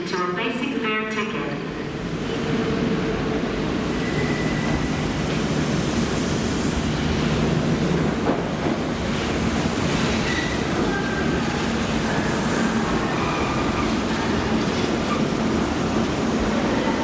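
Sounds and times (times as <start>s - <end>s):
train rumbling: 1.7s - 17.0s.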